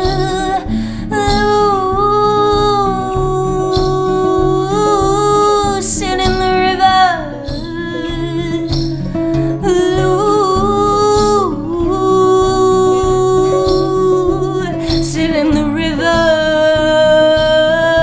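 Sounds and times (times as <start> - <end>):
strummed acoustic guitar: 0.0 - 18.0
woman singing: 0.0 - 18.0.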